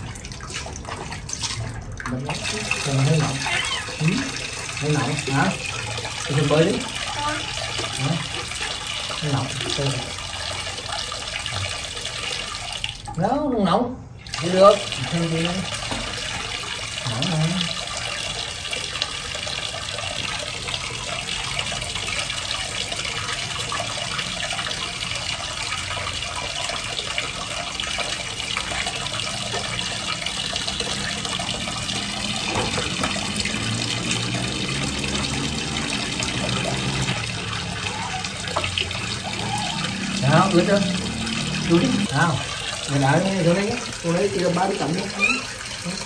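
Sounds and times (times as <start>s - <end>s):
water splashing: 0.0s - 13.3s, 14.2s - 46.0s
tap water pouring into basin: 0.0s - 46.0s.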